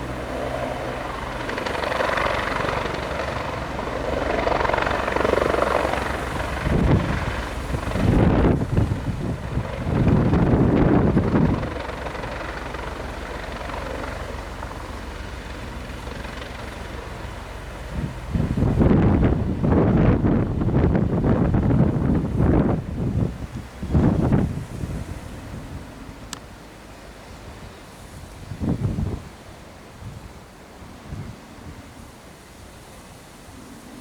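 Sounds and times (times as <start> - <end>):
helicopter rotor beat: 0.0 - 27.7
wind gusts on microphone: 0.0 - 34.0.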